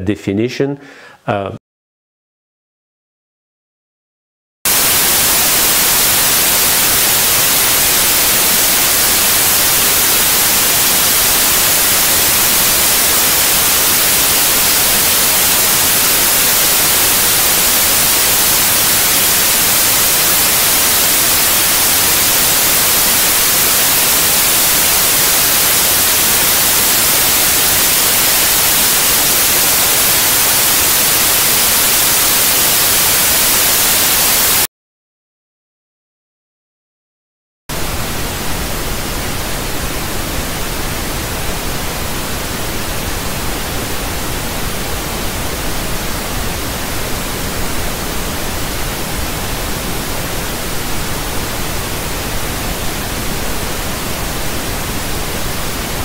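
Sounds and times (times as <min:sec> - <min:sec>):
white noise hiss: 0:04.7 - 0:34.7, 0:37.7 - 0:56.0.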